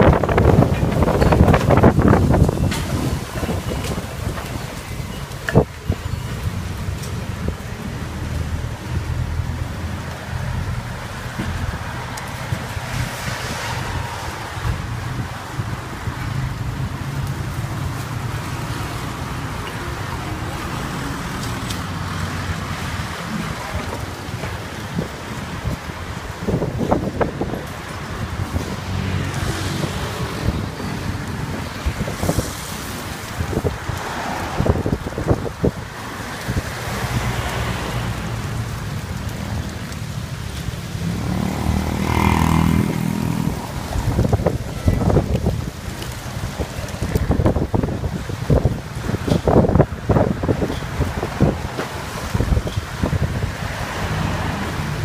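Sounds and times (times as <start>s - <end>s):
rain: 0.0s - 55.0s
strong wind buffeting microphone: 0.0s - 55.0s.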